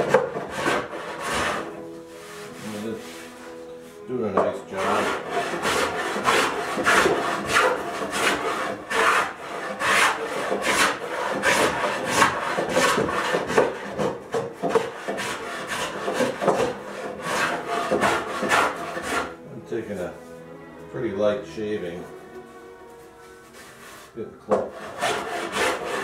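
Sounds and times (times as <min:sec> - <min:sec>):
hand plane shaving wood: 0:00.0 - 0:03.6, 0:04.4 - 0:20.1, 0:23.5 - 0:26.0.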